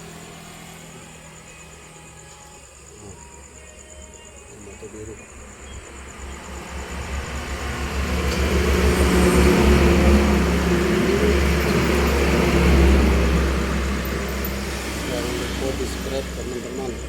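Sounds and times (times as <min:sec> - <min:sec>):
vehicle engine passing by: 0:00.0 - 0:03.0, 0:04.8 - 0:17.0.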